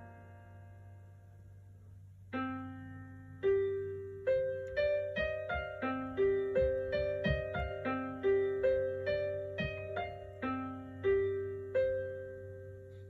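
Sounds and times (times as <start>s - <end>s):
piano melody: 0.0s - 1.6s, 2.2s - 13.0s.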